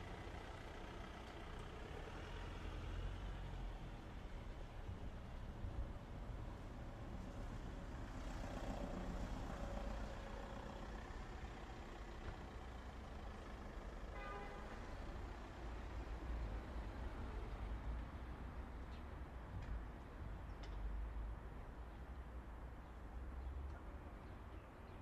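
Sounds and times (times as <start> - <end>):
distant traffic rumble: 0.0 - 25.0.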